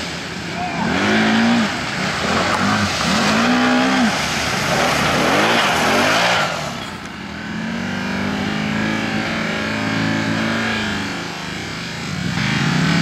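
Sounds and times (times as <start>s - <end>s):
rushing through mud: 0.0s - 13.0s
quad engine revving: 0.6s - 13.0s.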